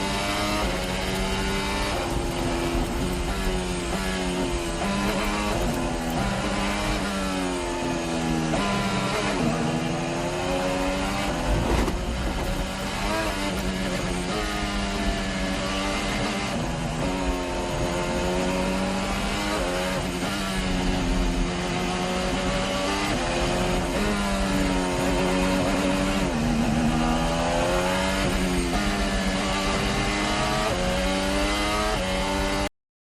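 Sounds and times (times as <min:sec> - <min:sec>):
racing car engine accelerating: 0:00.0 - 0:32.7.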